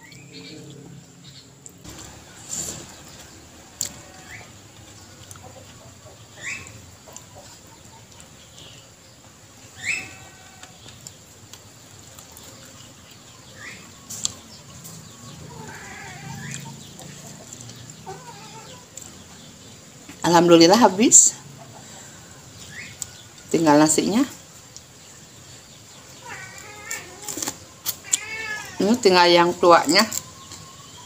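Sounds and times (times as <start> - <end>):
falling bird calls: 0.0 - 31.0.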